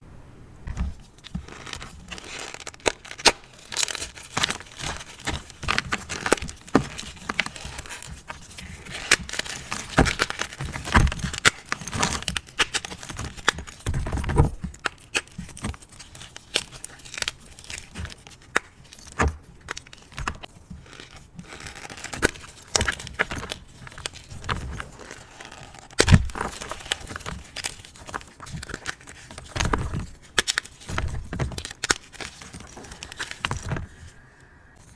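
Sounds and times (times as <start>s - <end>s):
crumbly crackly rustling: 0.7s - 34.2s.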